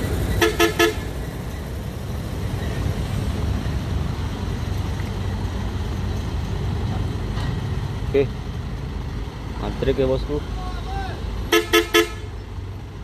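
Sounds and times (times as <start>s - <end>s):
truck engines rumbling: 0.0s - 13.0s.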